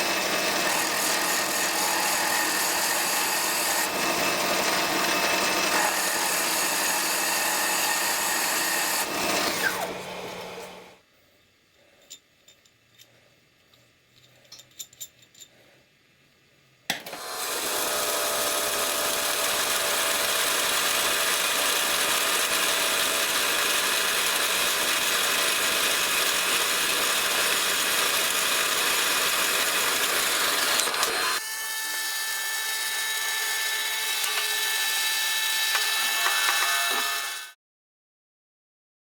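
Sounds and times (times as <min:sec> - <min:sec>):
power tool running: 0:00.0 - 0:11.0, 0:16.9 - 0:37.6.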